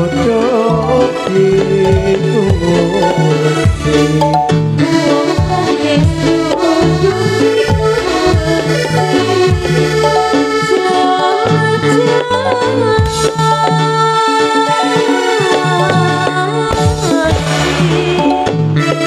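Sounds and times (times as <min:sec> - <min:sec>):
electronic keyboard melody: 0:00.0 - 0:19.0
steady drum beat: 0:01.0 - 0:14.0, 0:15.5 - 0:19.0.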